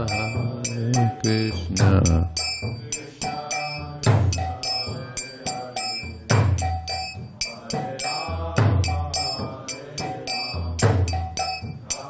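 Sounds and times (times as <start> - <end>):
chanting: 0.0 - 12.0
hand cymbals clashing: 0.0 - 12.0.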